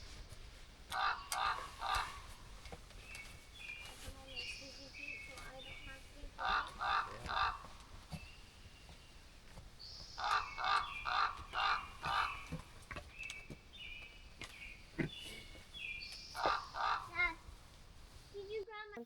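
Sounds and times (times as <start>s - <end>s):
harsh caw-like bird calls: 0.0s - 18.3s.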